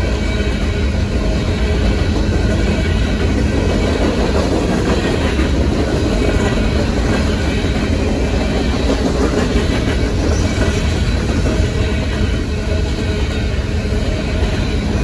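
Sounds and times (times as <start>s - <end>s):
freight train rumbling past: 0.0s - 15.0s
wheels clattering over rail joints: 0.0s - 15.0s.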